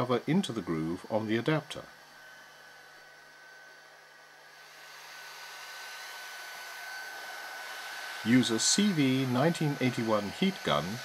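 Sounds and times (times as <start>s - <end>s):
heat gun blowing: 0.0s - 11.0s.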